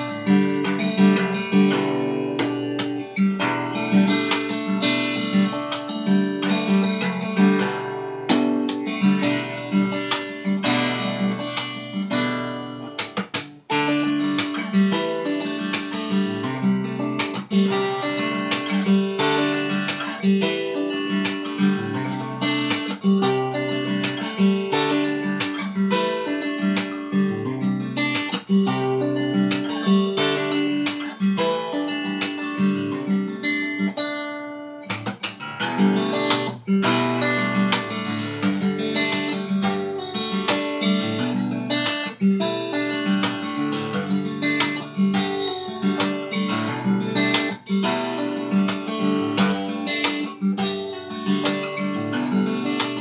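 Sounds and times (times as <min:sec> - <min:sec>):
solo guitar playing: 0:00.0 - 0:53.0.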